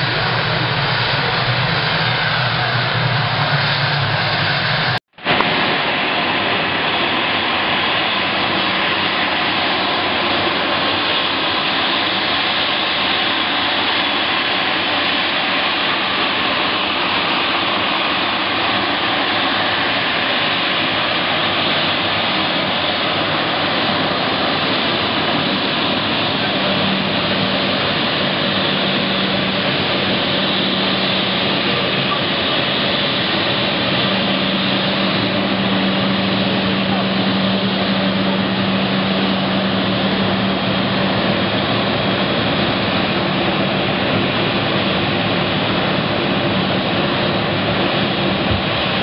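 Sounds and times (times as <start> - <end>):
jet engines running: 0.0 - 49.0.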